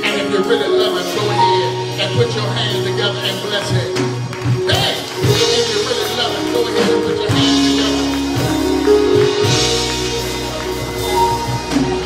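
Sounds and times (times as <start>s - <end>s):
keyboard sustained chords: 0.0s - 12.0s
drums: 1.9s - 12.0s.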